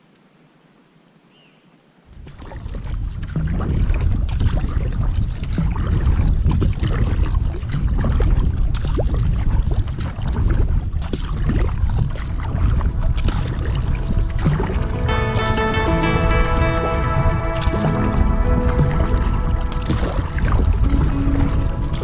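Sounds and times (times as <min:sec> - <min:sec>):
water splashing and lapping: 0:02.1 - 0:22.0
wind buffeting microphone: 0:02.2 - 0:15.1, 0:17.0 - 0:22.0.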